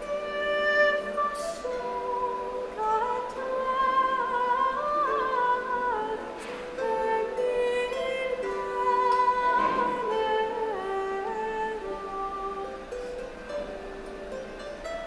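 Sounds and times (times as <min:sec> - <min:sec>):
slow melody of long held notes: 0:00.0 - 0:15.0.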